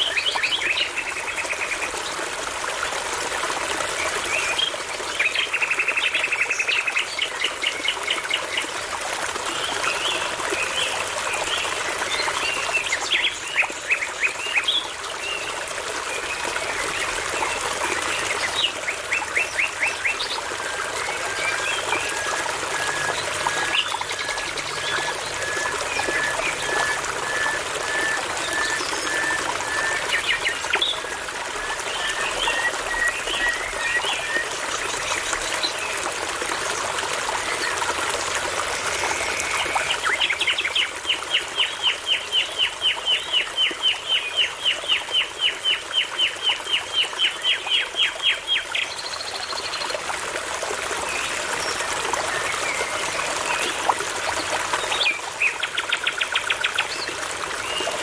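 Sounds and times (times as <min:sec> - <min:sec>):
babbling brook: 0:00.0 - 0:58.0.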